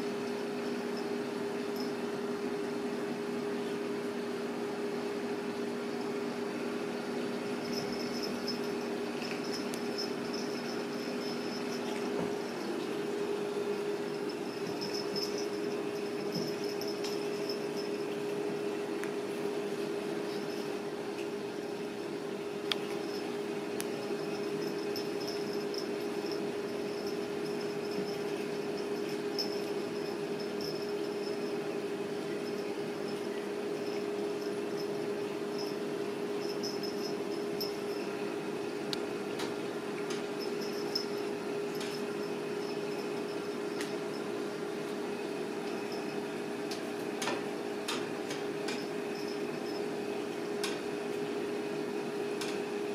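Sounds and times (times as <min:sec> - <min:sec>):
fan humming: 0:00.0 - 0:52.9.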